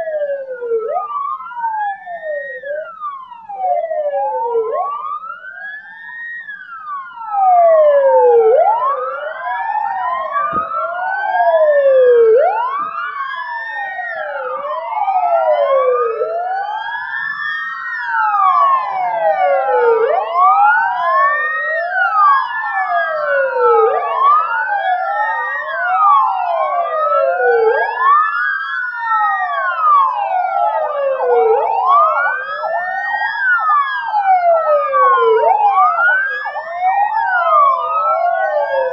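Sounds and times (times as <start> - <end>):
ambulance sirens wailing: 0.0 - 38.9.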